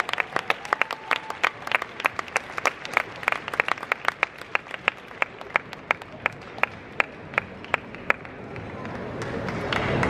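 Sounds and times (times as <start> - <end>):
spectators clapping: 0.0 - 10.0.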